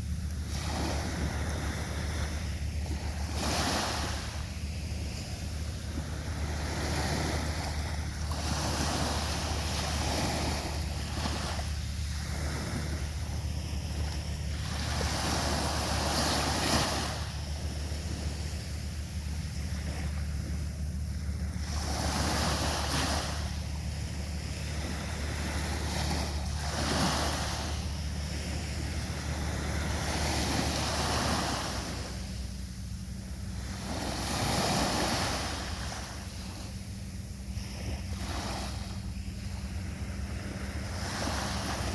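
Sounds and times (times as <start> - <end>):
sea waves breaking on shore: 0.0 - 41.9
wind rumble on microphone: 0.0 - 41.9.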